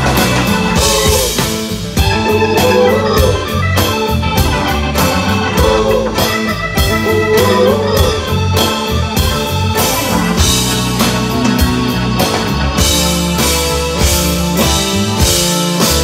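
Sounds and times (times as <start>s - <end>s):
organ: 0.0s - 16.0s
rock band playing: 0.0s - 16.0s.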